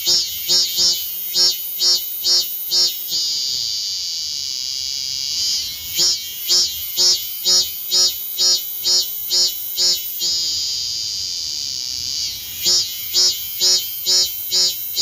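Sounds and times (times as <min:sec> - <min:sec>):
cicadas buzzing in pulses: 0:00.0 - 0:15.0.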